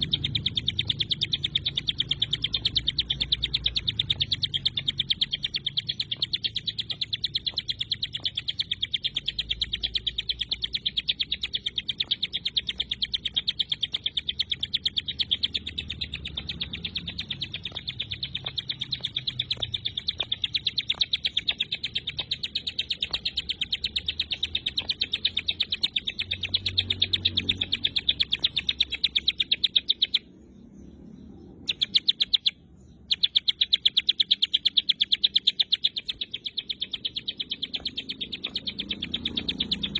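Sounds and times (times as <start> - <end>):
bird giving rapid high chirps: 0.0 - 39.9.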